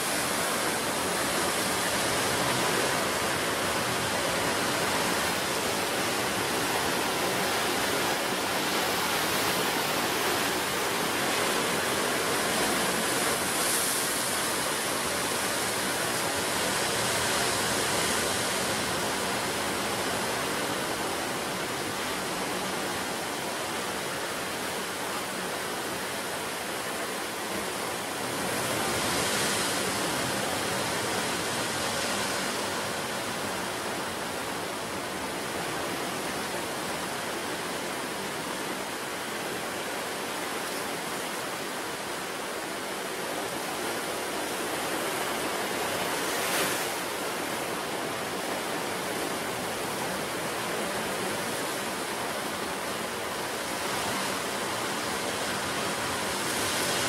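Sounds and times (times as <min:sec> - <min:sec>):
ocean surf washing ashore: 0:00.0 - 0:57.0.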